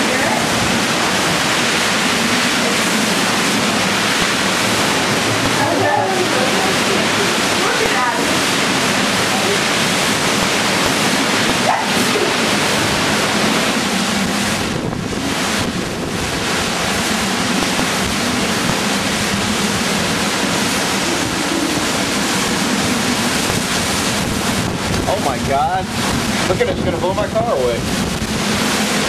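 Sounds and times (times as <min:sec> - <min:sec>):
driving rain: 0:00.0 - 0:29.0
strong wind rushing: 0:00.0 - 0:29.0
wind buffeting microphone: 0:00.0 - 0:29.0.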